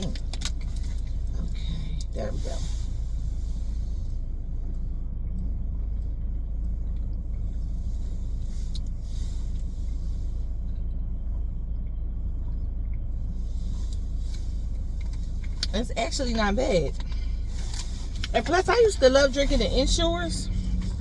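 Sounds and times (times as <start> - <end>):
car cabin engine rumble: 0.0 - 21.0.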